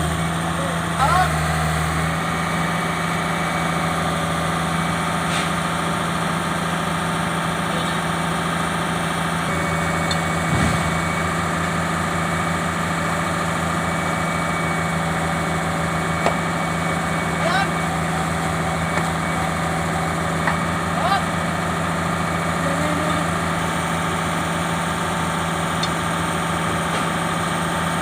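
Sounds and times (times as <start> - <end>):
excavator diesel engine idling: 0.0 - 28.0.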